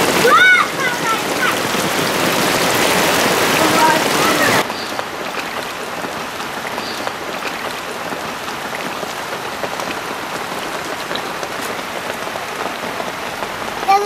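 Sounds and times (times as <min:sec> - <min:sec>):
rain on water and grass: 0:00.0 - 0:14.0.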